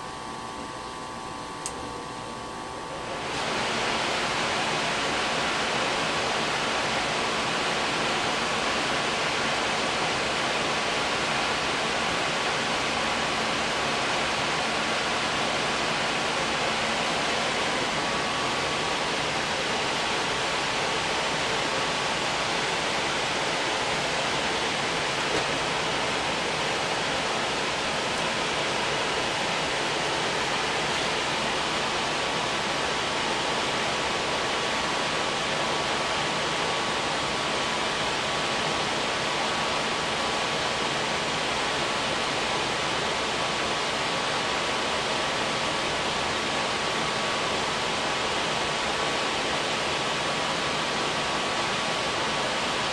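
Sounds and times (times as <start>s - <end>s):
furnace blower rushing air: 0.0s - 52.9s.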